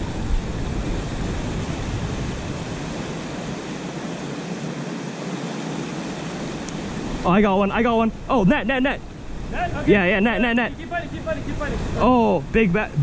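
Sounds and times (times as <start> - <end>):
wind rumble on microphone: 0.0 - 4.9, 6.1 - 13.0.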